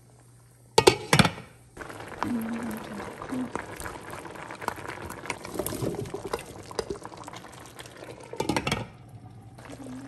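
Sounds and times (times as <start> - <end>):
pot boiling and bubbling: 0.0 - 10.0.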